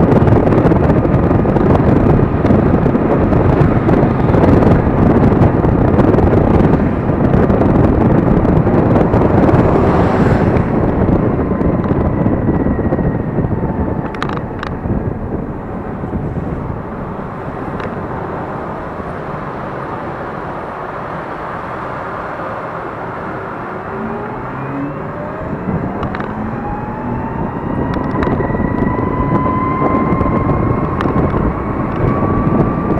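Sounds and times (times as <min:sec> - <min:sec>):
wind and road noise: 0:00.0 - 0:32.9.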